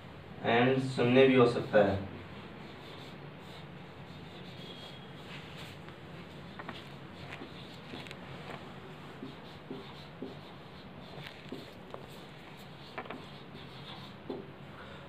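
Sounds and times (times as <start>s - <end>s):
steady background hiss: 0.0s - 15.0s
marker pen writing on whiteboard: 1.6s - 14.6s.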